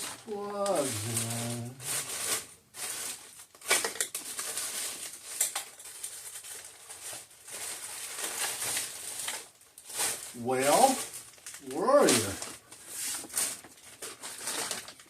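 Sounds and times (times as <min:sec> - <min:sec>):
rummaging through small parts: 0:00.0 - 0:15.0.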